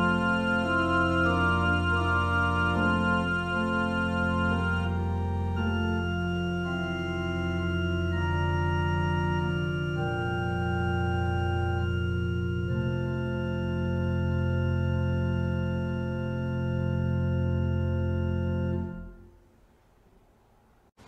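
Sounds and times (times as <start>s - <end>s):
organ playing sustained chords: 0.0s - 19.4s.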